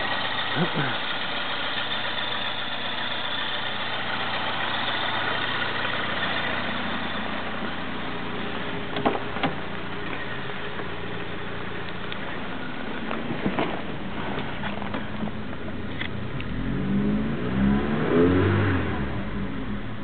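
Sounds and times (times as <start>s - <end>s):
car engine idling: 0.0s - 17.4s, 19.0s - 20.0s.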